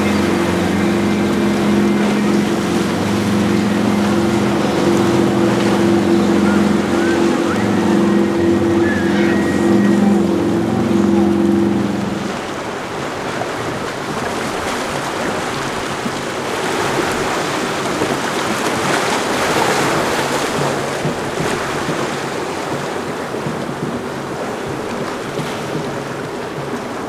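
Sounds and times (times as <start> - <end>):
hull wash and breaking surf: 0.0 - 27.0
outboard engine drone: 0.0 - 27.0
wind on microphone: 0.0 - 27.0.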